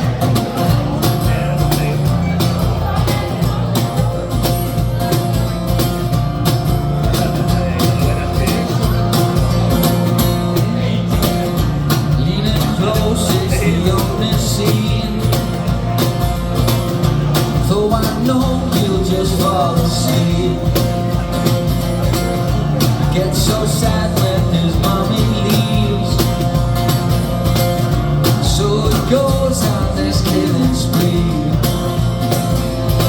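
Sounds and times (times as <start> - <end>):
drums keeping a steady beat: 0.0 - 33.0
rock band playing live: 0.0 - 33.0.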